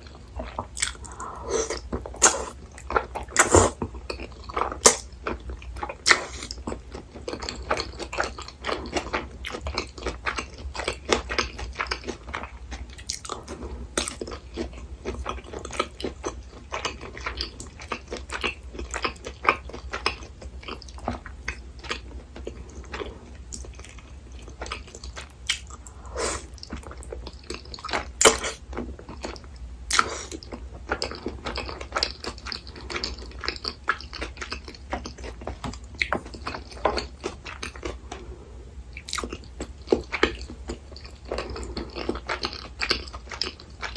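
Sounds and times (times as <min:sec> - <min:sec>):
chewing and biting food: 0:00.0 - 0:38.3, 0:38.9 - 0:43.9.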